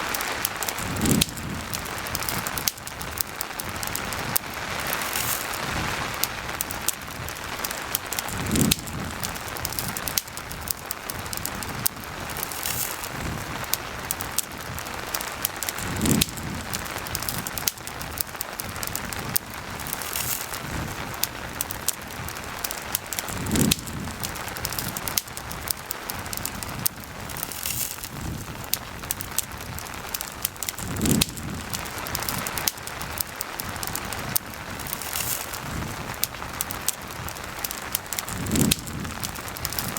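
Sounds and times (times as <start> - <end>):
campfire crackling: 0.0 - 39.9
rain hissing: 0.0 - 39.9.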